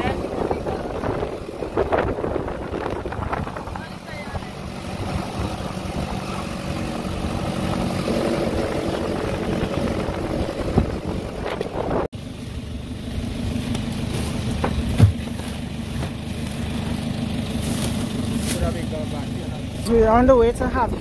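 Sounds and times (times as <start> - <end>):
road noise: 0.0 - 21.0
vehicle engine running: 0.0 - 21.0.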